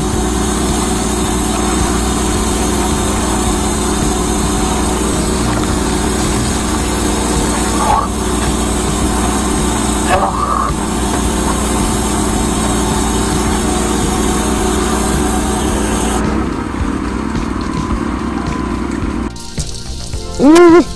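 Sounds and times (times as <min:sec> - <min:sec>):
drain jetter pump humming: 0:00.0 - 0:20.9
hiss of water: 0:00.0 - 0:20.9.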